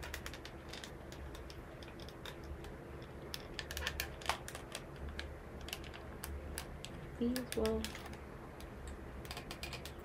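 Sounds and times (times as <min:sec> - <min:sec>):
resin doll parts clicking: 0:00.0 - 0:10.0.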